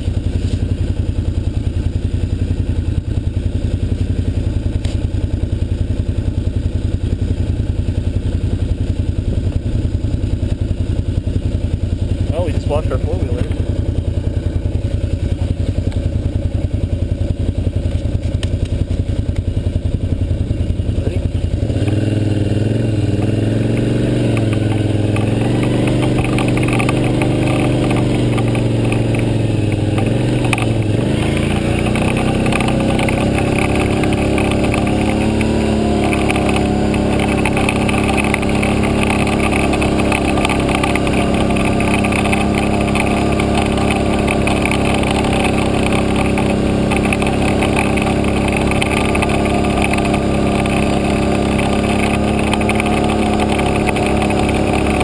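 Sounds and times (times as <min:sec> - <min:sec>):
quad engine idling and revving: 0:00.0 - 0:55.0.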